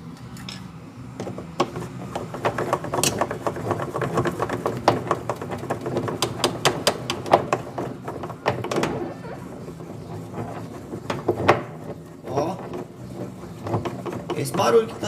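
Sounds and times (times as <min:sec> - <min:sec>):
washing machine clicking and knocking: 0:01.2 - 0:15.0.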